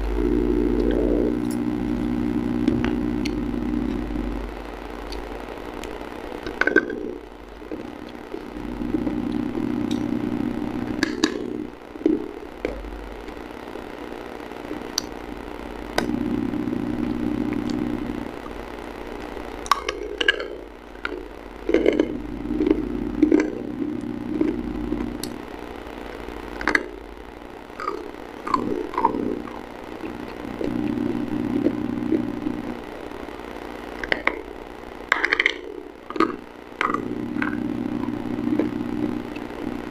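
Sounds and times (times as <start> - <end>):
low whirring hum: 0.0 - 39.9.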